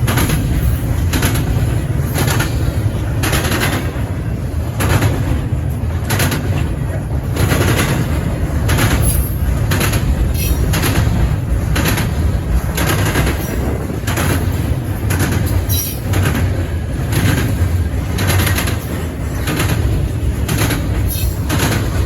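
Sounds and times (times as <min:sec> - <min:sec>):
wheels clacking over rail joints: 0:00.0 - 0:22.0.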